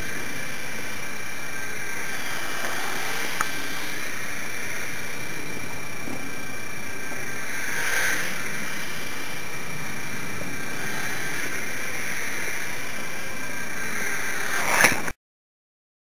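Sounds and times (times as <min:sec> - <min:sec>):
electric motors and propellers whining: 0:00.0 - 0:15.2.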